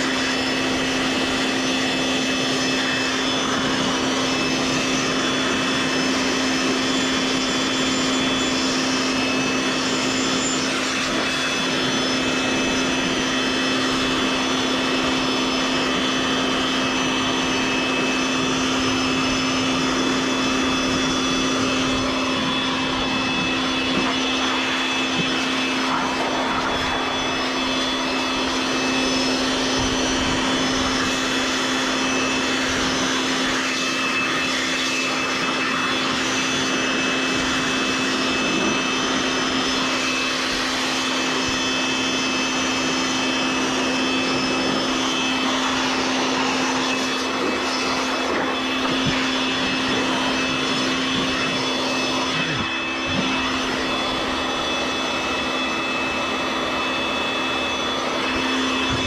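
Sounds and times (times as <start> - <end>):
electric air blower running: 0.0 - 59.0.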